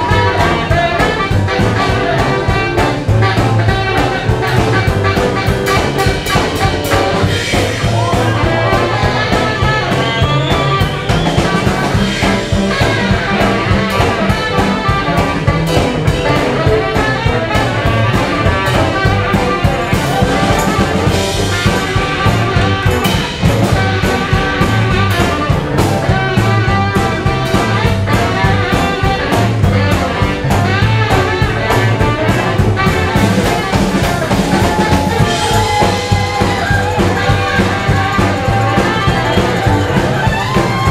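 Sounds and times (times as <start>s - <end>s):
drum kit steady beat: 0.0s - 40.9s
jump-blues band: 0.0s - 40.9s
tenor saxophone solo: 0.0s - 40.9s.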